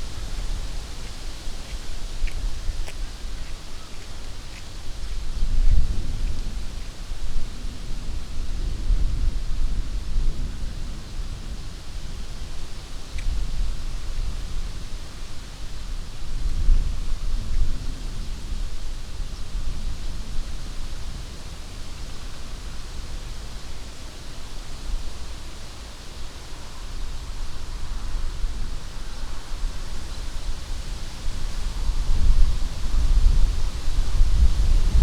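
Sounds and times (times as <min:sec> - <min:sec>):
wind buffeting microphone: 0:00.0 - 0:23.5, 0:27.2 - 0:35.0
wind rushing through tree leaves: 0:00.0 - 0:35.0.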